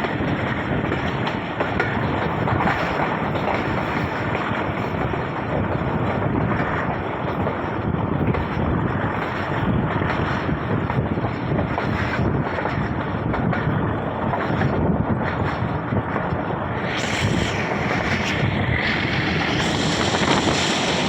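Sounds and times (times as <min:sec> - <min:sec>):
train running noise: 0:00.0 - 0:21.0
wind on microphone: 0:00.0 - 0:21.0.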